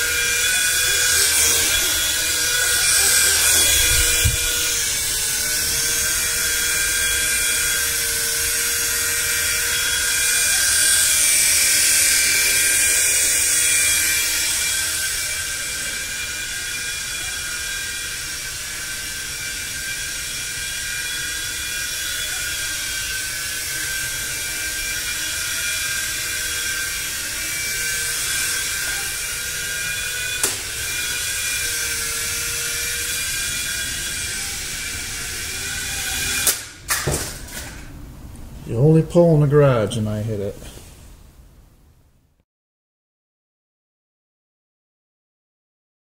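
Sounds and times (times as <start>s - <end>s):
small electric motors whining: 0.0s - 37.9s
rotor humming: 0.0s - 39.1s.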